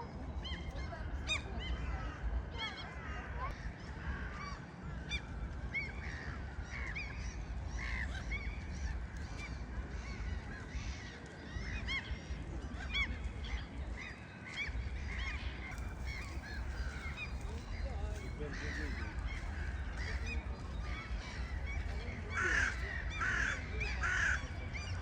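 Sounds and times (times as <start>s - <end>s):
flock of birds calling: 0.2s - 25.0s.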